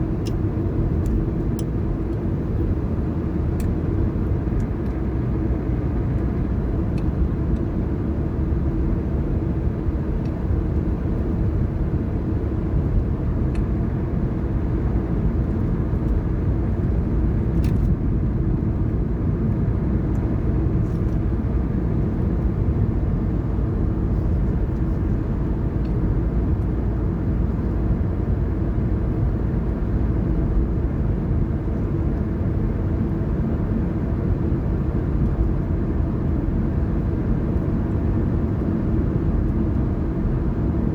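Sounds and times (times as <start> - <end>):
car tyres and engine rumble: 0.0 - 40.9.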